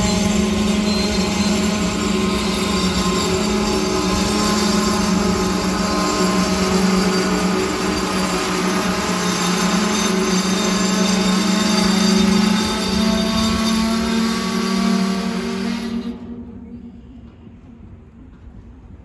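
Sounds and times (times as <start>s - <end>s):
train brakes squealing: 0.0s - 17.7s
rumble of rolling train cars: 0.0s - 19.0s.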